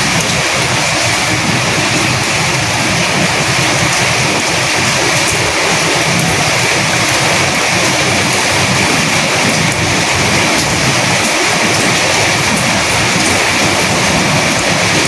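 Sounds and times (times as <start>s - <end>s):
heavy rain with wind: 0.0s - 15.0s.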